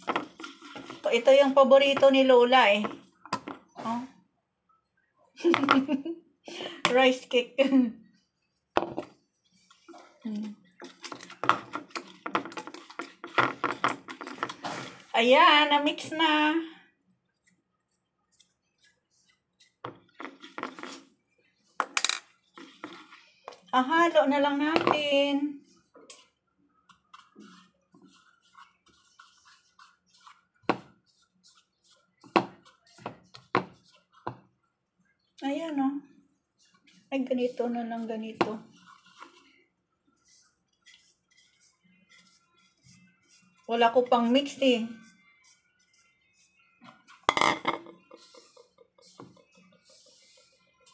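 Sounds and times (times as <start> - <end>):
spoon stirring batter in a bowl: 0.0 - 3.8, 8.1 - 50.9.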